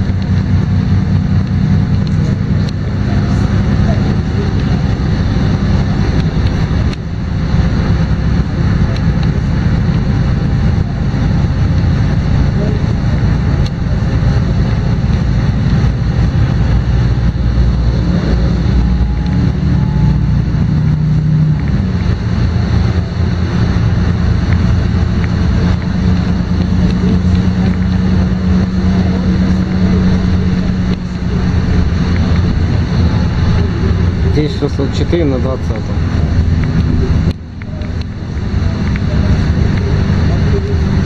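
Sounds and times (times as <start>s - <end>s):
bus diesel engine drone: 0.0s - 41.0s
road noise: 0.0s - 41.0s.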